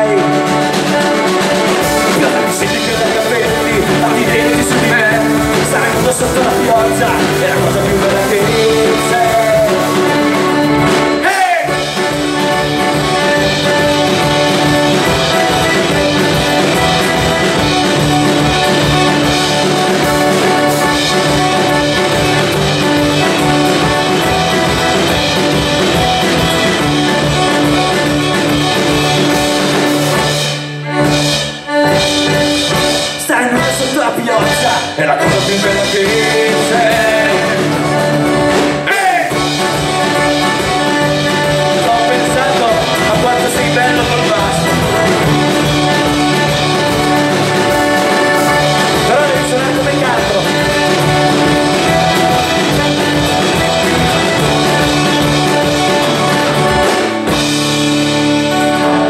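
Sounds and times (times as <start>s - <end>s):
live folk-rock band playing: 0.0s - 59.0s.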